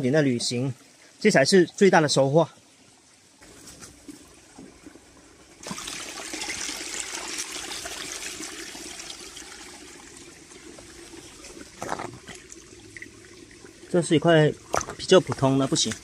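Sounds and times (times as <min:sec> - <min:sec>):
stream water splashing: 0:00.0 - 0:16.0.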